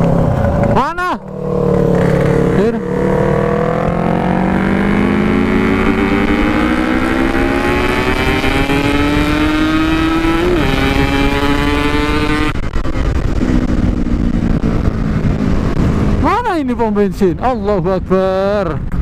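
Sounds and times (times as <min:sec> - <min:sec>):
motorcycle engine revving: 0:00.0 - 0:16.5.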